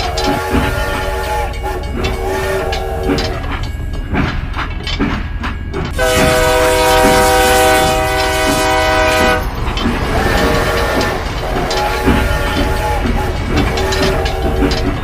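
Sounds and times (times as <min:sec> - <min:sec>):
train horn: 0:00.0 - 0:03.6, 0:05.9 - 0:15.0
clickety-clack of train wheels: 0:00.0 - 0:15.0.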